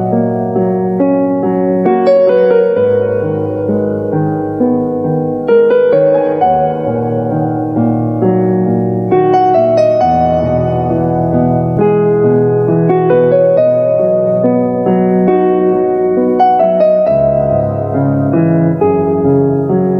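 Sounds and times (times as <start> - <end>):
gentle piano music: 0.0 - 19.9.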